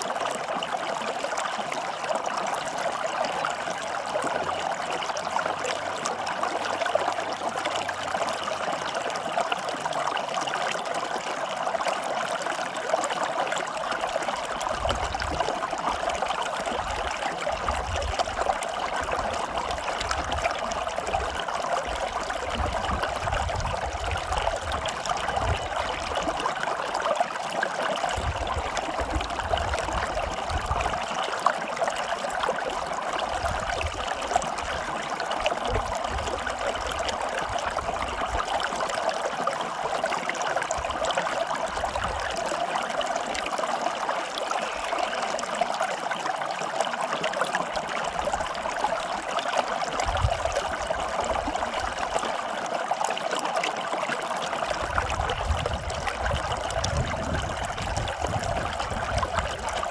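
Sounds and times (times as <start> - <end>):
stream of water trickling: 0.0 - 59.9.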